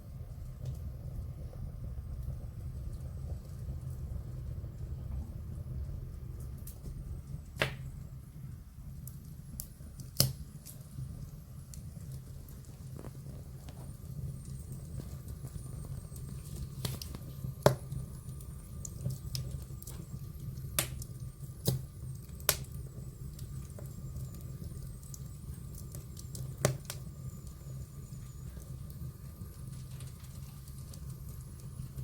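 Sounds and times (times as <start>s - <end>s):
fire crackling and popping: 0.0s - 32.0s
low hum: 0.0s - 32.0s.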